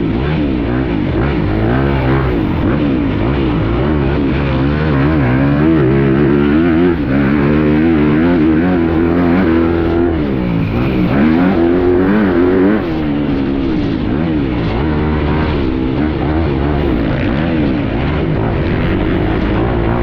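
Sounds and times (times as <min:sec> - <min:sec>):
motocross engine revving: 0:00.0 - 0:20.0.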